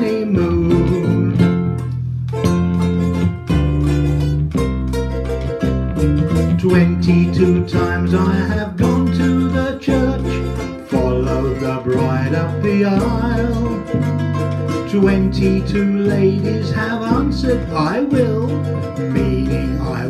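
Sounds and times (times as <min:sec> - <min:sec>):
low held bass notes: 0:00.0 - 0:20.0
ukuleles strumming: 0:00.0 - 0:20.0.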